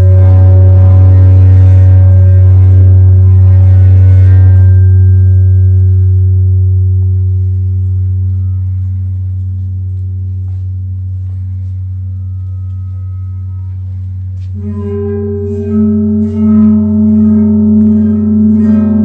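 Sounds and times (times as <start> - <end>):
deep ringing tone: 0.0 - 19.0.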